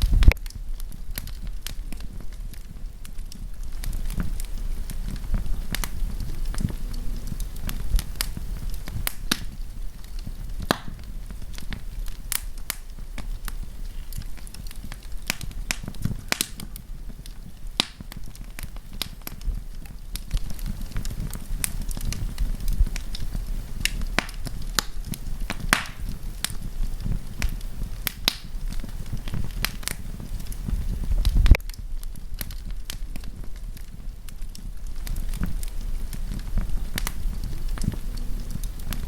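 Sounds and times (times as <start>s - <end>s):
low rumble: 0.0s - 25.5s, 26.1s - 39.0s
campfire crackling and popping: 0.0s - 39.0s.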